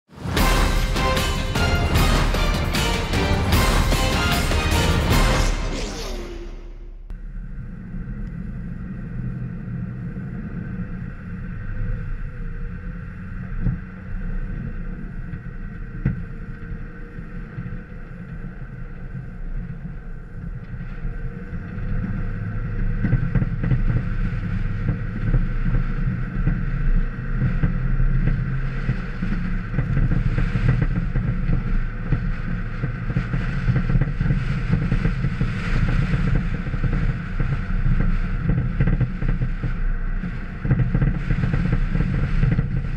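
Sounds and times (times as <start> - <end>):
tyre and road noise: 0.1 - 42.9
vehicle engine running: 0.1 - 42.9.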